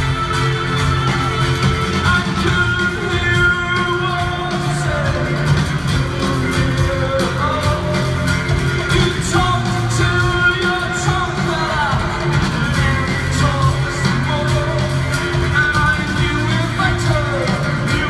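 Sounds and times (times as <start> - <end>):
live rock band: 0.0 - 18.0
man singing: 0.0 - 18.0.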